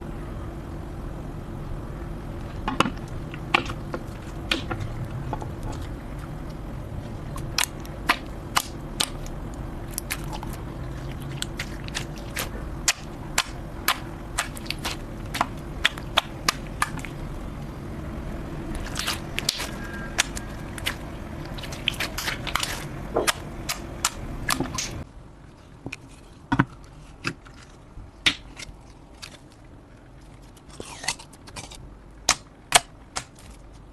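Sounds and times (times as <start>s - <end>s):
low hum: 0.0s - 32.6s.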